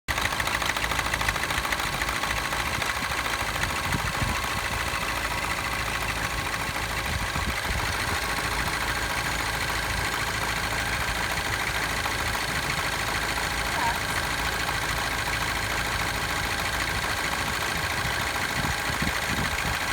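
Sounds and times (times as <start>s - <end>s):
car engine idling: 0.1s - 19.9s.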